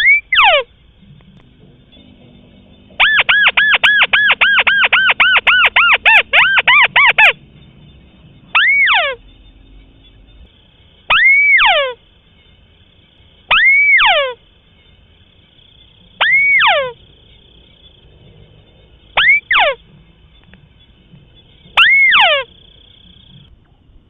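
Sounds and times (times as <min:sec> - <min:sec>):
crake calling: 0:00.0 - 0:23.9.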